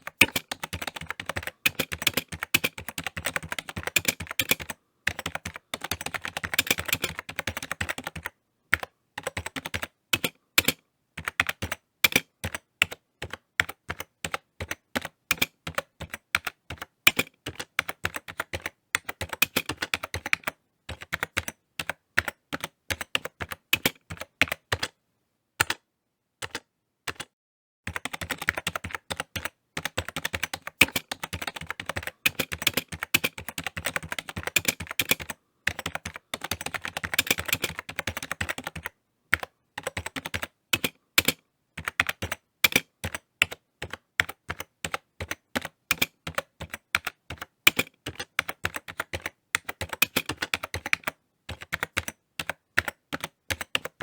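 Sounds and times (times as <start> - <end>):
typing on computer keyboard: 0.0 - 25.0, 25.6 - 25.8, 26.4 - 27.3, 27.9 - 54.0.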